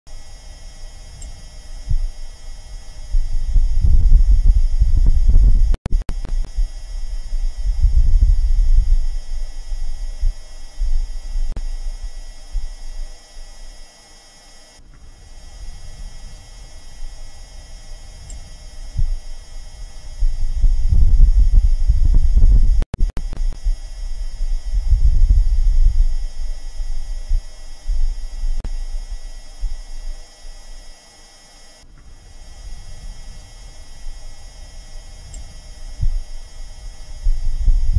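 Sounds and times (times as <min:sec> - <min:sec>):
wind buffeting microphone: 0:01.0 - 0:12.9, 0:14.9 - 0:30.1, 0:32.0 - 0:37.9.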